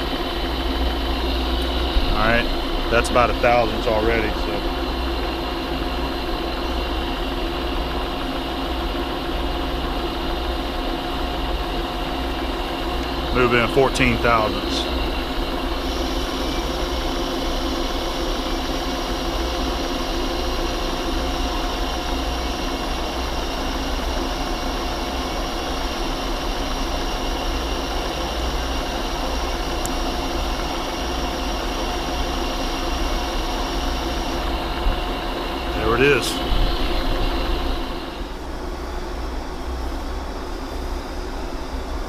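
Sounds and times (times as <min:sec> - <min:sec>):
metal lathe running: 0:00.0 - 0:38.7
high whine: 0:00.0 - 0:39.3.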